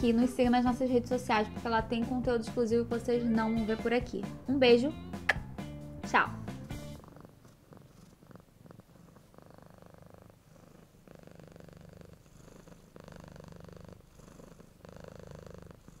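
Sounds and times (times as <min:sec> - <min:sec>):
cat purring: 0:00.0 - 0:05.1, 0:06.2 - 0:16.0.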